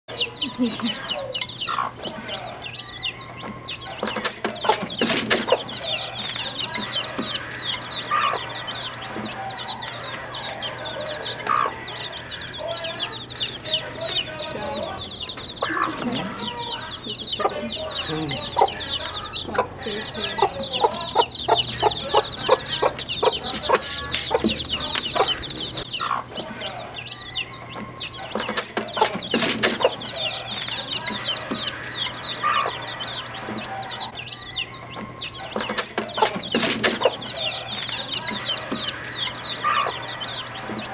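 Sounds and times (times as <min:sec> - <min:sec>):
chicks peeping: 0:00.1 - 0:40.9
hen clucking: 0:00.1 - 0:40.9.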